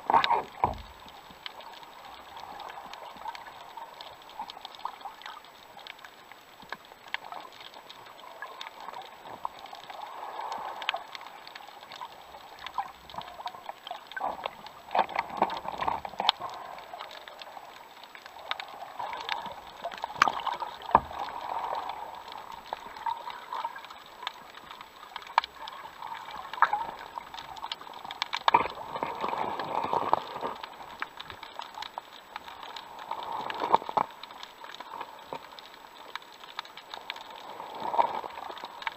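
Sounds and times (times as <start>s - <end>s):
water rushing and sloshing: 0.0s - 38.9s.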